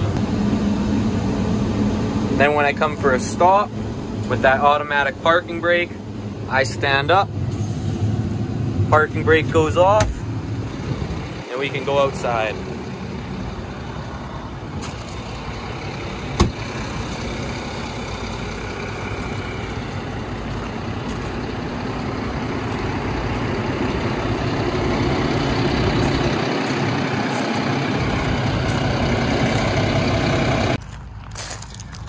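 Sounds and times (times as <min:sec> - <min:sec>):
diesel tractor engine idling: 0:00.0 - 0:30.9.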